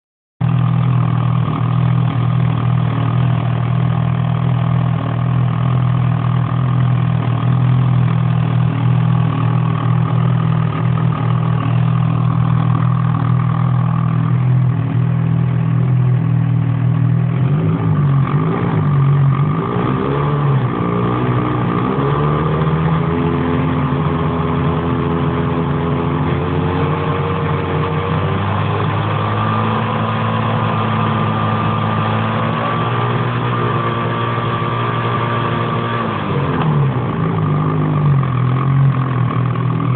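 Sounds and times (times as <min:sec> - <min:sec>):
two-stroke engine idling and revving: 0:00.4 - 0:39.9.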